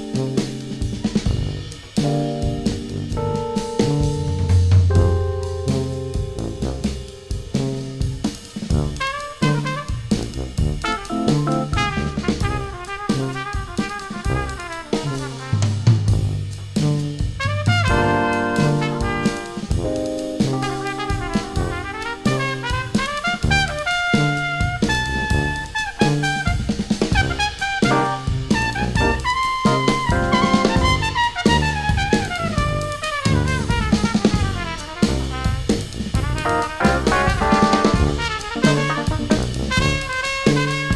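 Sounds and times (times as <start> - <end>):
drum kit with hi-hat: 0.0 - 40.9
jazz horn section: 0.0 - 40.9
tuba walking bass line: 0.0 - 40.9.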